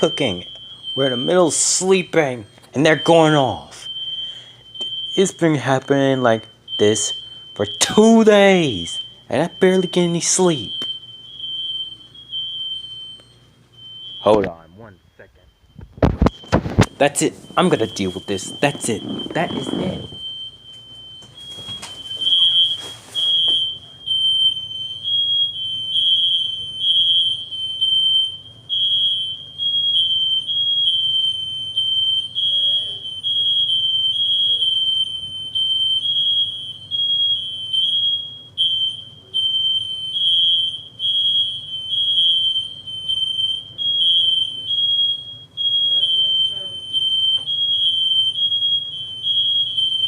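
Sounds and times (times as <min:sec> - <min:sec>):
fire alarm pulsing tone: 0:00.0 - 0:50.0.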